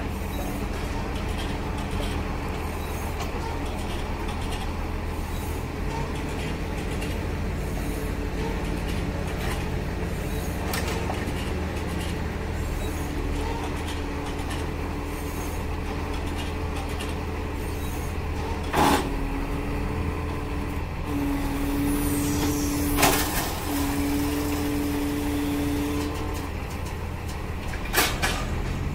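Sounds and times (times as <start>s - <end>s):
diesel engine running: 0.0s - 28.9s
hydraulics whining: 0.0s - 28.9s.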